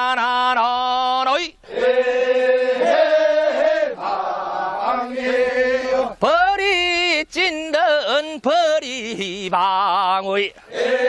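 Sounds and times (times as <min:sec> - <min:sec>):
men singing unaccompanied: 0:00.0 - 0:11.0.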